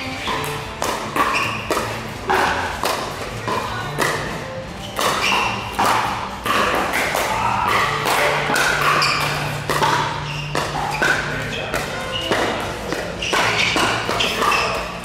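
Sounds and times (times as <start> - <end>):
paddles hitting plastic ball: 0.2 - 15.0.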